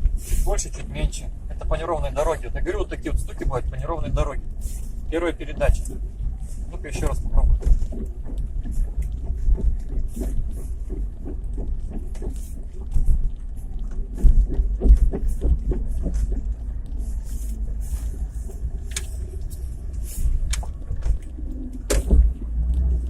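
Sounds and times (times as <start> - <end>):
engine and road rumble: 0.0 - 23.0
sharp drivetrain thumps: 0.0 - 23.0.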